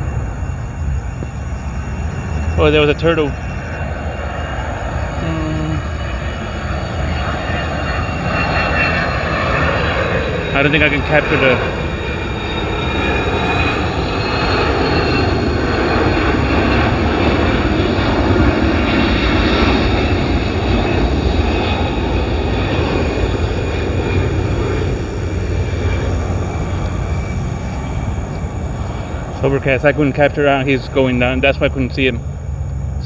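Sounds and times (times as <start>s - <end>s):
airplane engine drone overhead: 0.0s - 33.0s.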